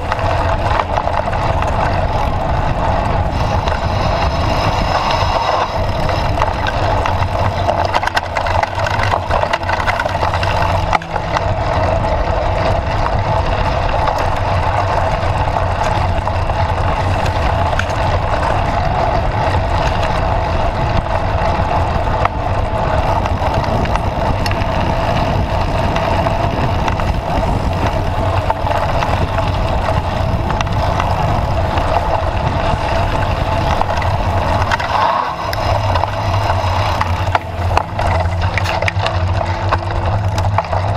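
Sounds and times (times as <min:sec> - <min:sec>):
bike rattling over rough ground: 0:00.0 - 0:40.9
wind on microphone: 0:00.0 - 0:40.9.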